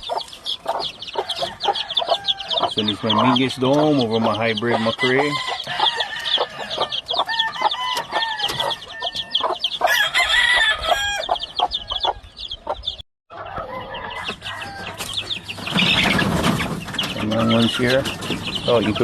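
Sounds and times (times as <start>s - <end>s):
chickens calling: 0.0s - 19.0s
chicks peeping: 0.0s - 19.0s.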